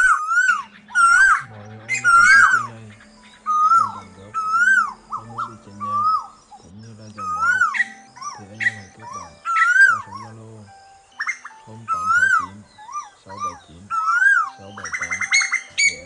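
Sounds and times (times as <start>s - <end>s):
higher shorter koel calls: 0.0s - 16.0s
koel whistled calls: 0.0s - 16.0s.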